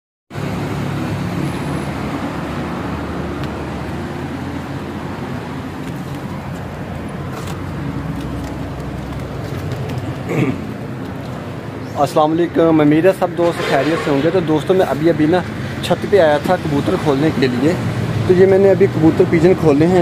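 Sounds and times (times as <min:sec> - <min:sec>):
road traffic noise: 0:00.3 - 0:20.0.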